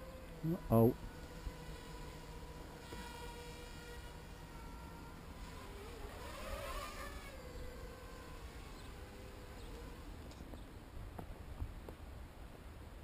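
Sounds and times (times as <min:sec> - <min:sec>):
quadcopter propellers buzzing: 0:00.0 - 0:10.6.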